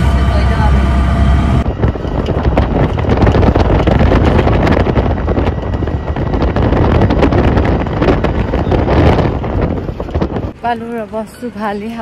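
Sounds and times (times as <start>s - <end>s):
vehicle engine drone and rattling: 0.0s - 12.0s
wind buffeting microphone: 0.0s - 12.0s.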